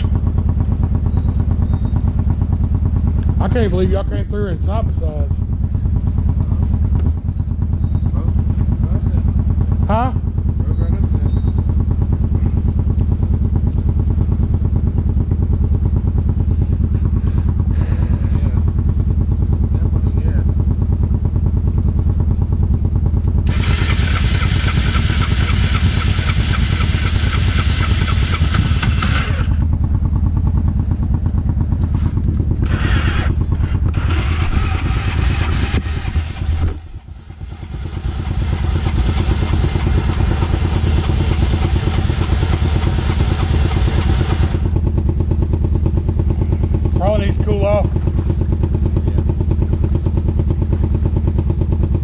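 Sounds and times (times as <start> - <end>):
off-road vehicle engine running: 0.0 - 52.0.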